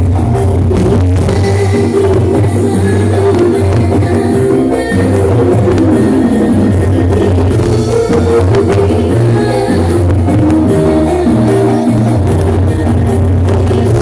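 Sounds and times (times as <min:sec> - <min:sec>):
drums beating: 0:00.0 - 0:14.0
live dance music: 0:00.0 - 0:14.0.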